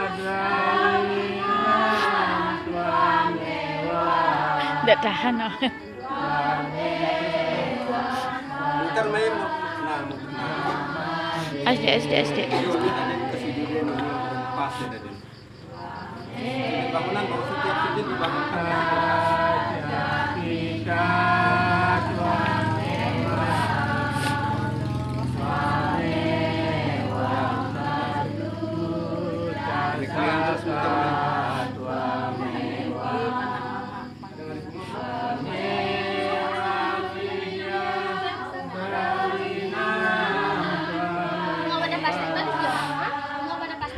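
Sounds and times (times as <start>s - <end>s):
group of voices chanting: 0.0s - 43.9s.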